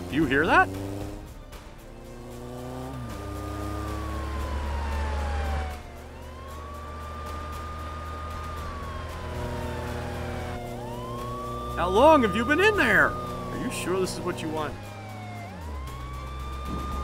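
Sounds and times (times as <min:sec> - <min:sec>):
police siren wailing: 0:00.0 - 0:00.8, 0:02.8 - 0:17.0.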